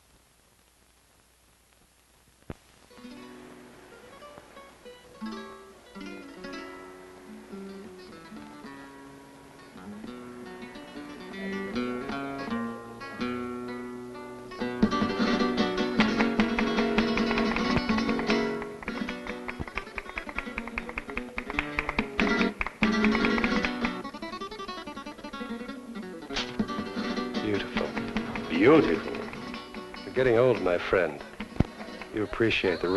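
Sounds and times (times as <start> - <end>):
flamenco acoustic guitar: 2.5 - 32.9.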